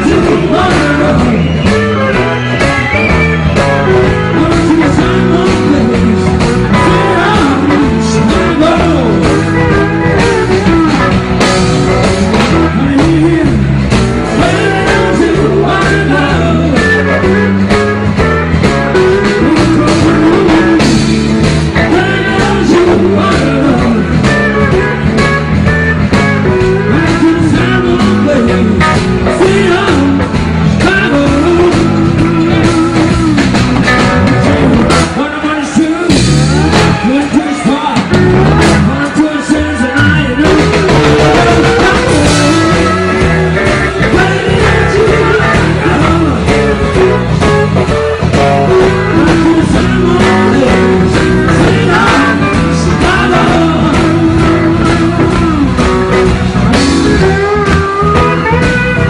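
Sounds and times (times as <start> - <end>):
man singing into a microphone: 0.0 - 2.5, 4.0 - 10.9, 12.3 - 17.7, 19.0 - 21.1, 21.7 - 25.0, 26.7 - 33.4, 34.3 - 47.3, 48.4 - 55.9
drums: 0.0 - 59.0
electric bass: 0.0 - 59.0
guitar: 0.0 - 59.0.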